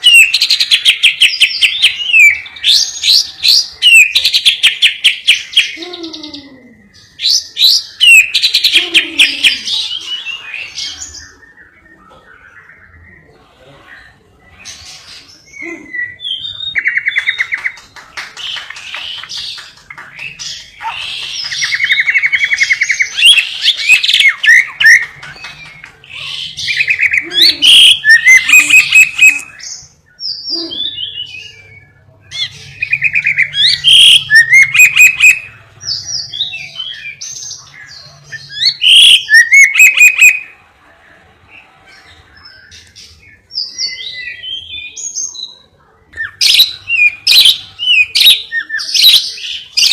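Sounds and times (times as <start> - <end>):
lovebird singing with trills: 0.0 - 13.3, 14.0 - 40.6, 42.0 - 49.9.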